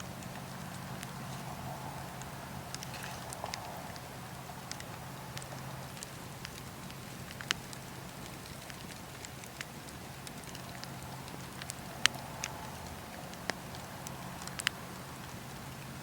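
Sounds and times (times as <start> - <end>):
campfire wood crackling: 0.0 - 16.0
low rumble of flames: 0.0 - 16.0.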